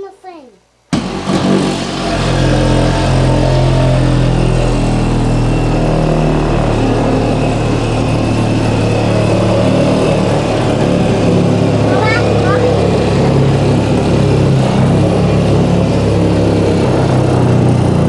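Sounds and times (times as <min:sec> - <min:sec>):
power saw cutting: 0:00.9 - 0:18.0.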